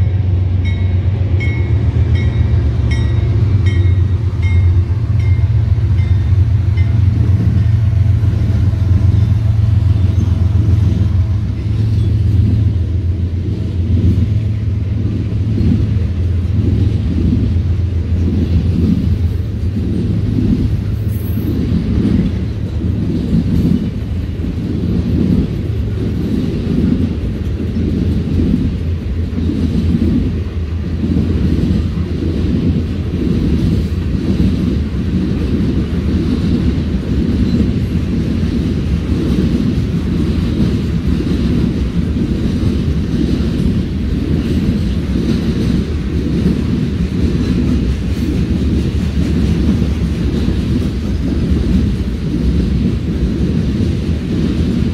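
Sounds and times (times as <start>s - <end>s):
diesel locomotive rumbling: 0.0s - 54.9s
freight cars rolling on rails: 0.0s - 54.9s.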